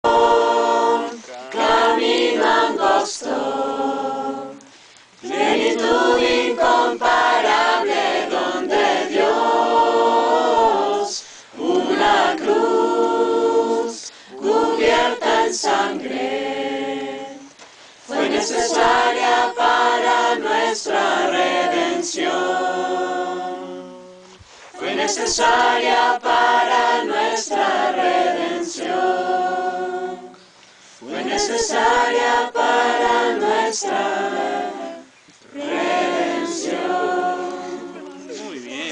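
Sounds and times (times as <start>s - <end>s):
group singing worship song: 0.0s - 38.9s.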